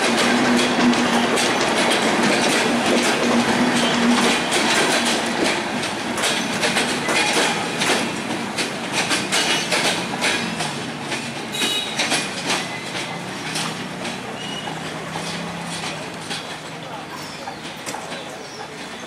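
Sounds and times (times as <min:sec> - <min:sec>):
train wheels clattering over rail joints: 0:00.0 - 0:19.0.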